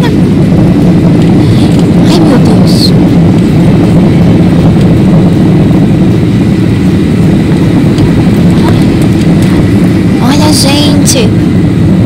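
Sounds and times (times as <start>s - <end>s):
jet engines rumbling: 0.0s - 12.0s
rushing air: 0.0s - 12.0s.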